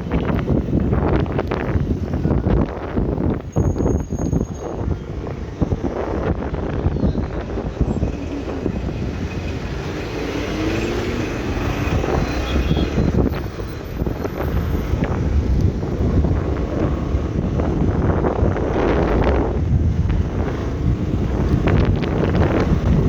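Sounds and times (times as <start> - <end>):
motorbike engine and road rumble: 0.0 - 23.0
wind buffeting microphone: 0.0 - 23.0.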